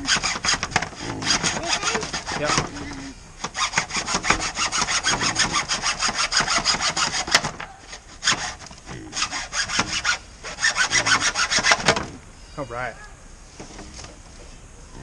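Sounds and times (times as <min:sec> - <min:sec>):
hacksaw cutting plastic pipe: 0:00.0 - 0:12.1.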